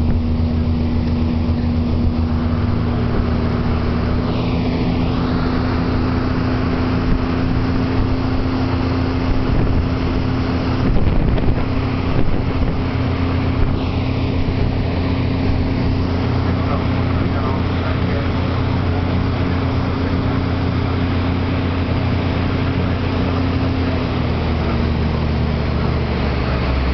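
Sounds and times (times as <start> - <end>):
boat engine droning: 0.0 - 26.9
water rushing in wake: 0.0 - 26.9.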